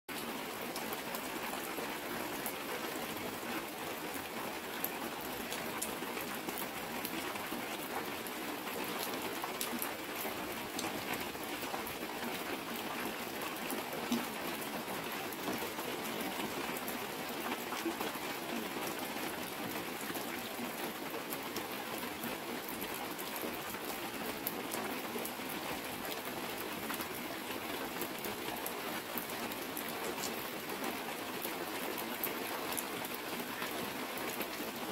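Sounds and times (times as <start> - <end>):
heavy rain on plastic sheet: 0.1 - 34.9.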